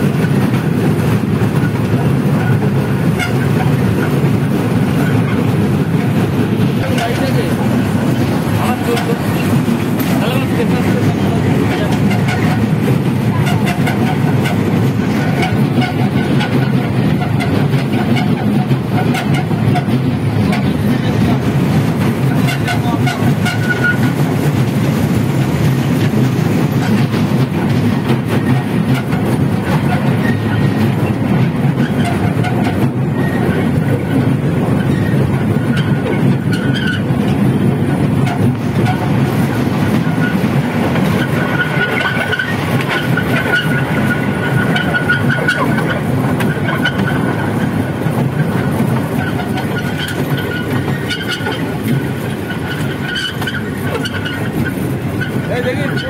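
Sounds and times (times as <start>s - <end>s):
toy train rumbling on rails: 0.0s - 56.0s.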